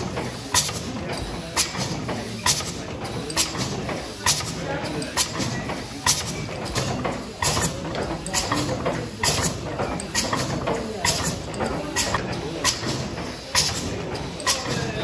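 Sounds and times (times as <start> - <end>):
faint voices: 0.0 - 15.0
steam engine running: 0.0 - 15.0.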